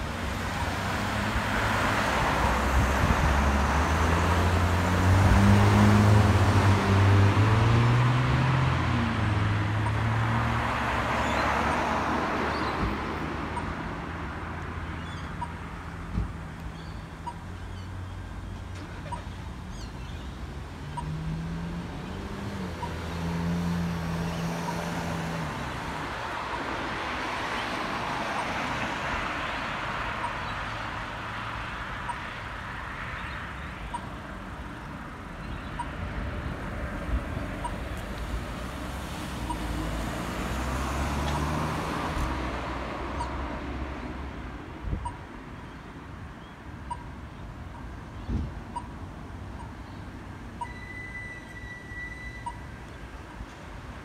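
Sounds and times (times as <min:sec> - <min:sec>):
cars driving past: 0:00.0 - 0:47.2.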